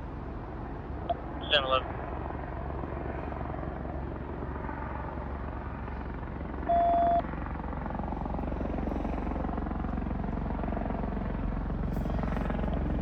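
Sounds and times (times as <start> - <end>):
helicopter rotor chop: 0.0 - 13.0.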